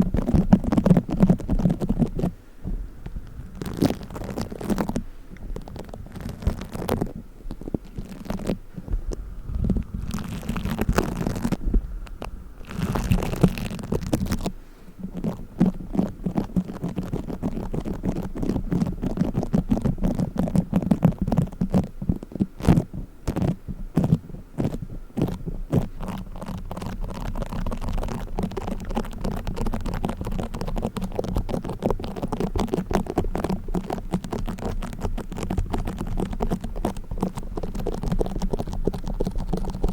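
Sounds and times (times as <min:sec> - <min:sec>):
play foam crackling and rubbing: 0:00.0 - 0:02.4, 0:03.3 - 0:39.9.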